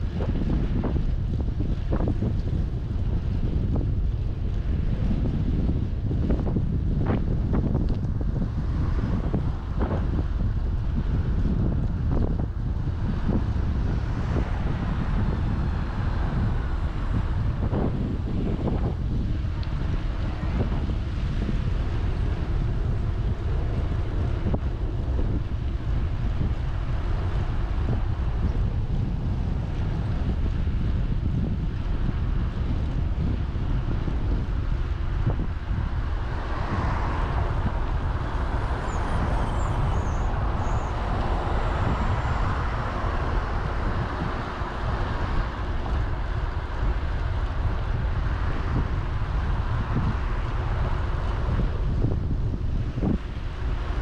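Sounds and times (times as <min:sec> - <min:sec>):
broad rushing noise: 0:00.0 - 0:54.0
wind buffeting microphone: 0:00.0 - 0:54.0.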